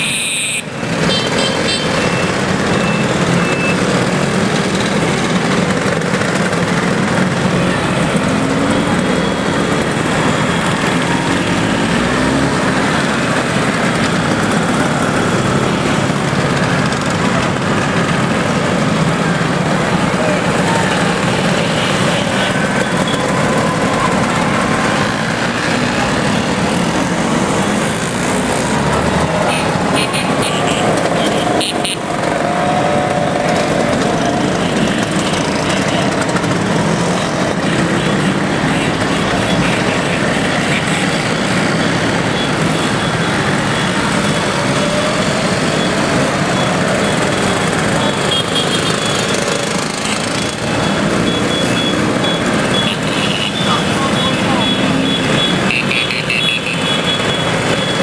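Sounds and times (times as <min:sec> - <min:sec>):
scooters riding past: 0:00.8 - 0:55.7.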